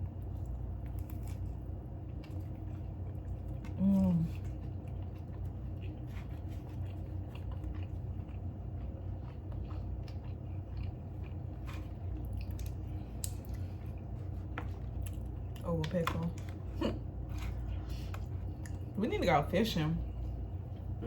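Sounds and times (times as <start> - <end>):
steady low hum: 0.0 - 21.0
wet chewing and biting: 0.2 - 19.0.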